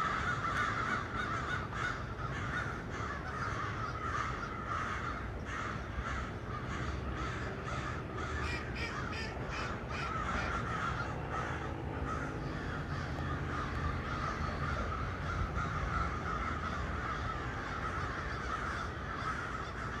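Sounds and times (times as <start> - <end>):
crows cawing: 0.0 - 20.0.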